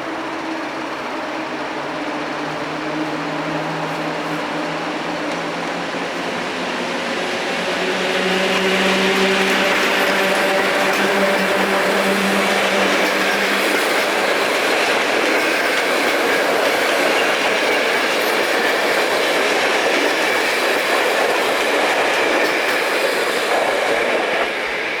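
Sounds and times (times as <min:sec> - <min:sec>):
train wheels rolling on rails: 0:00.0 - 0:25.0.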